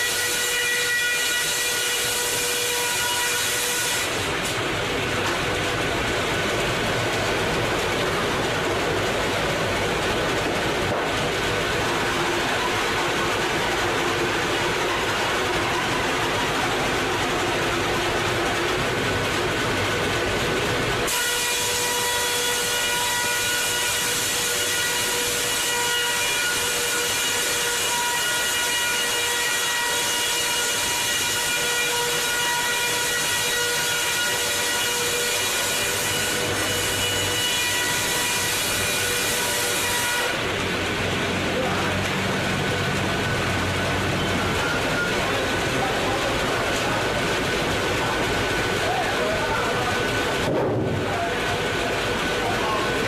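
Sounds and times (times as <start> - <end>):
heavy machinery running: 0.0 - 53.0
power saw cutting wood: 0.0 - 53.0.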